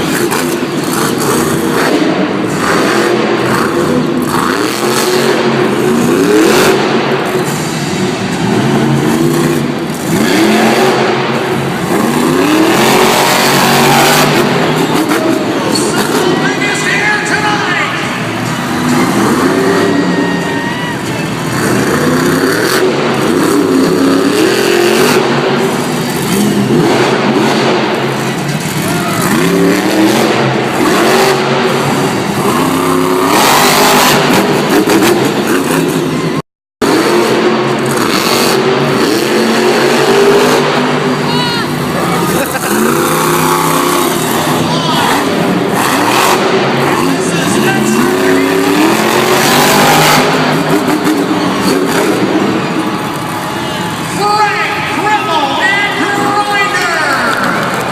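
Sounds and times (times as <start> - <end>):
truck engine revving hard: 0.0 - 57.9.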